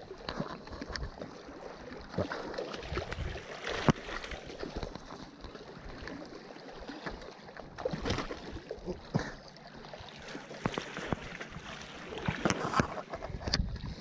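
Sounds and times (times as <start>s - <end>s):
sea water washing: 0.0s - 14.0s.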